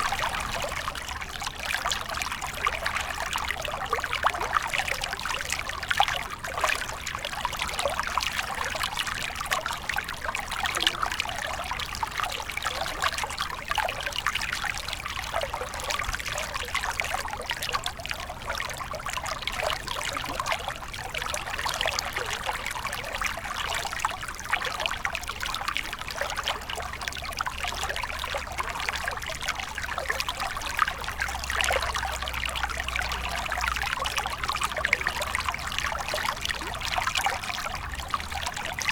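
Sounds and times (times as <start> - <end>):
river water over rocks: 0.0 - 38.9.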